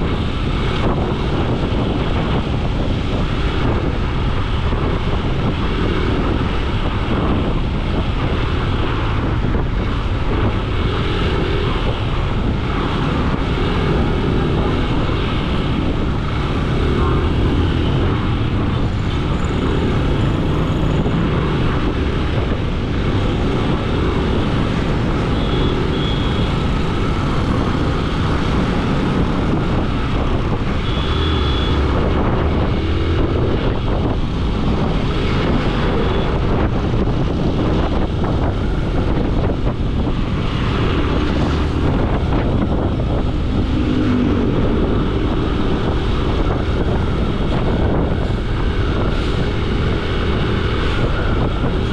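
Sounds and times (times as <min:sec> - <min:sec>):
vehicle road and engine noise: 0:00.0 - 0:51.9
wind on microphone: 0:00.0 - 0:51.9.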